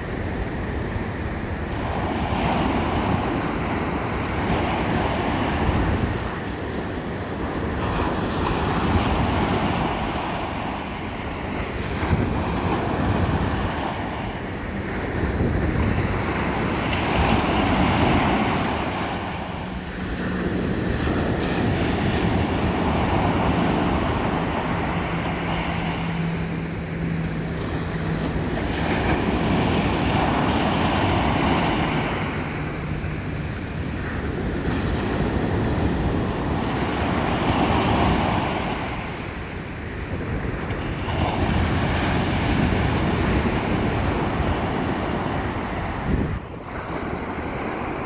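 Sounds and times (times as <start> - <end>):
ocean waves breaking on beach: 0.0 - 48.0.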